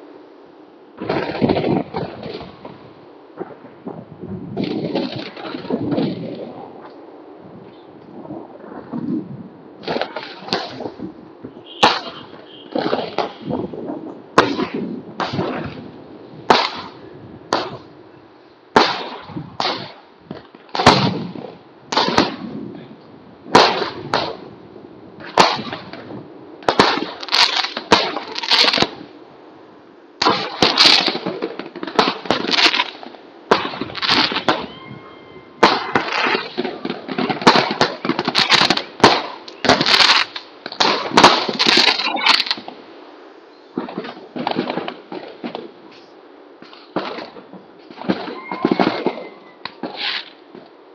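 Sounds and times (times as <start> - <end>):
fireworks bangs echoing: 1.0 - 6.9, 8.8 - 18.0, 18.7 - 29.2, 30.2 - 42.9, 43.7 - 46.0, 46.6 - 50.6.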